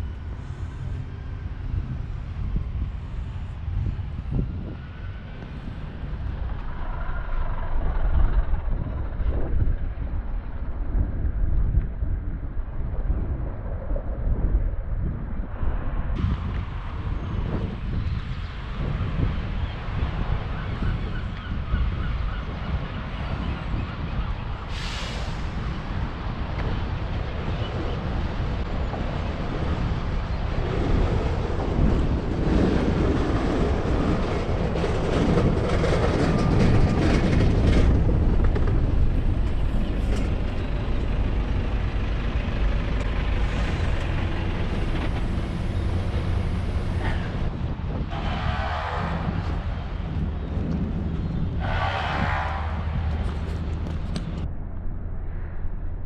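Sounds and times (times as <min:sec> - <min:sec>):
traffic passing: 0:00.0 - 0:11.3, 0:16.2 - 0:56.0
wind rumbling on microphone: 0:00.0 - 0:56.0.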